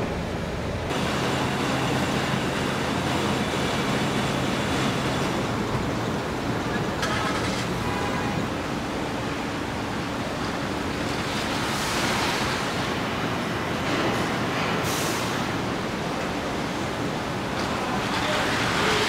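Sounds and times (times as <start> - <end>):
factory machinery noise: 0.0 - 19.0.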